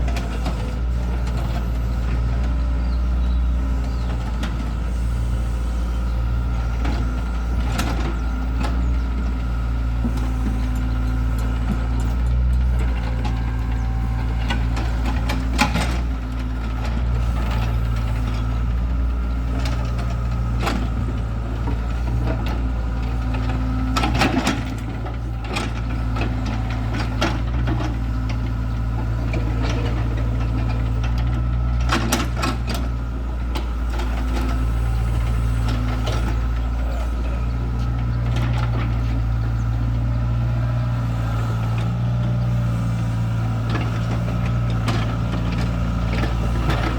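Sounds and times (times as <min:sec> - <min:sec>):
excavator diesel engine: 0:00.0 - 0:46.9.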